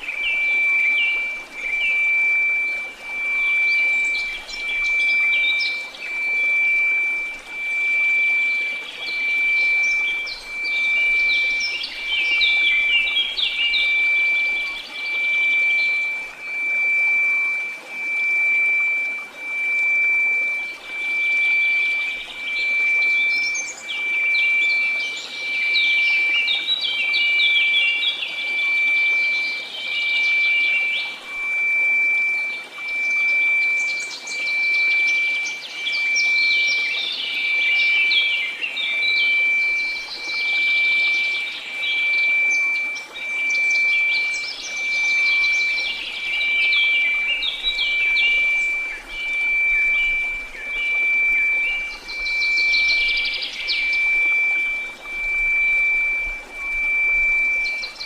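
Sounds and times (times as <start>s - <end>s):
birds chirping: 0.0s - 58.0s
steady sine tone: 0.0s - 58.0s.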